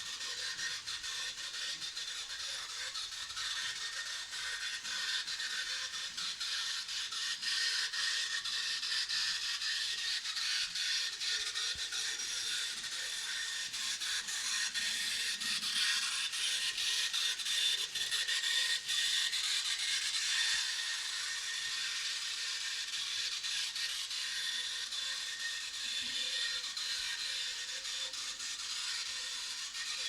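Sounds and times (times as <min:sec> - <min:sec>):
light clicks of wheels on track: 0:00.0 - 0:30.0
model train motor whirring: 0:00.0 - 0:30.0.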